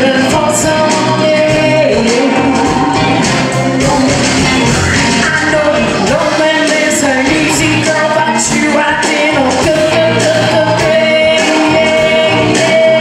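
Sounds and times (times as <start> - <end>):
woman singing blues: 0.0 - 4.1, 5.2 - 13.0
electric guitar: 0.0 - 13.0.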